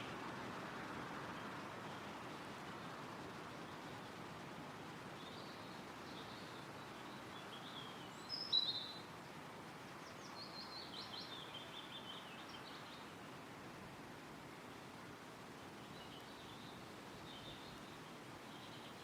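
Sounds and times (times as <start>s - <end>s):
small songbirds chirping: 0.0s - 19.0s
wind rustling through trees: 0.0s - 19.0s.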